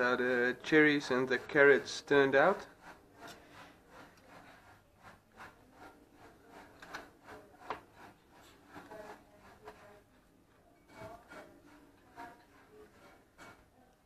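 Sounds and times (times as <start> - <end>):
carving knife sawing through meat: 0.1 - 14.0.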